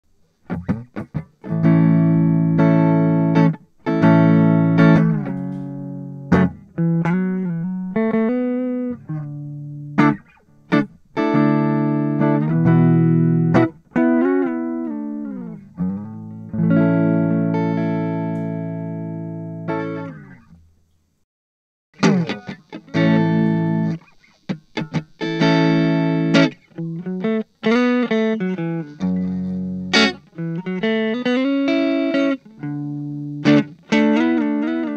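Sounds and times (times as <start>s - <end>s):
clean electric guitar: 0.4s - 20.7s, 22.0s - 34.9s.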